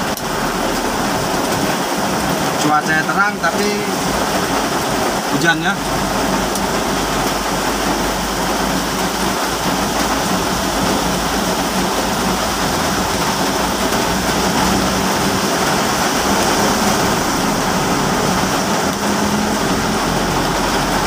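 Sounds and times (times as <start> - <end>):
car driving on wet road: 0.0 - 21.0
heavy rain on car roof: 0.0 - 21.0.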